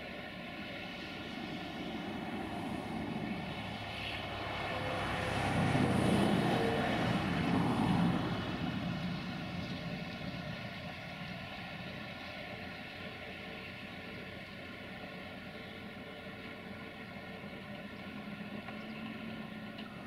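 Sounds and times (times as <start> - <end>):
bulldozer diesel engine: 0.0 - 20.0
steady whine: 0.0 - 20.0.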